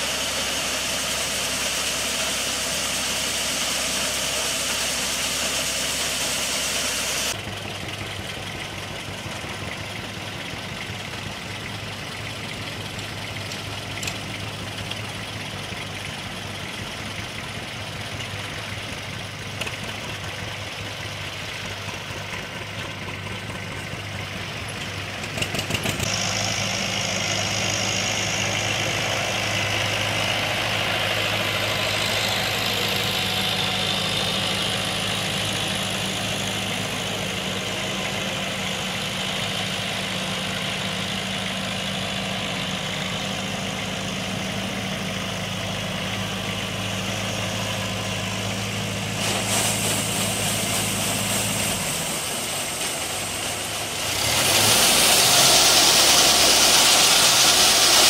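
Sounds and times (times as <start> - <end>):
tractor engines idling: 0.0 - 58.0.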